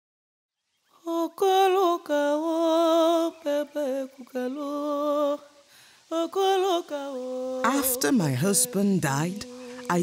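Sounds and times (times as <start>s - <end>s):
person singing unaccompanied: 0.9s - 10.0s.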